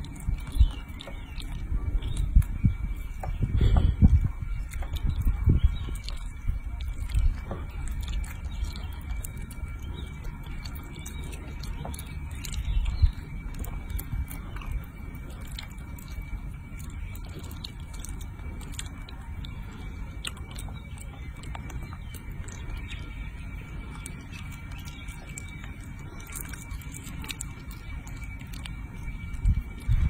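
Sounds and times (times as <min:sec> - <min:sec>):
low rumble: 0:00.0 - 0:30.0
monkey chewing and smacking: 0:00.0 - 0:30.0.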